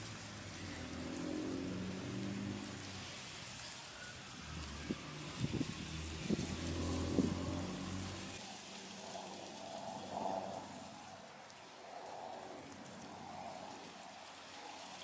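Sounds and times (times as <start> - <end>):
guinea pigs chewing greens: 0.0 - 15.0.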